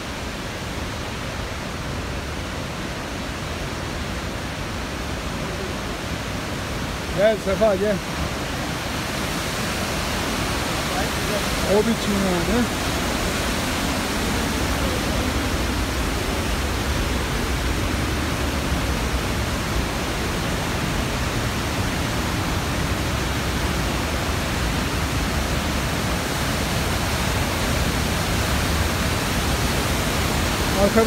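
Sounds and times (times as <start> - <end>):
waterfall rushing over rocks: 0.0 - 31.0.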